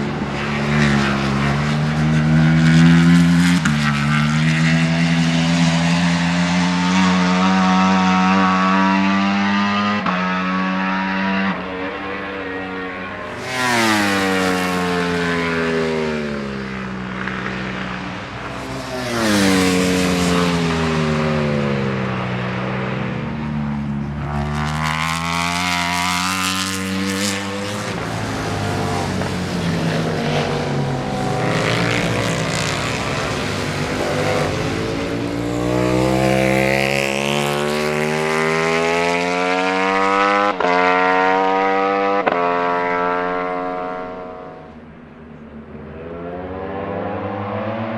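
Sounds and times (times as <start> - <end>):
racing motorcycles passing by: 0.0 - 47.9.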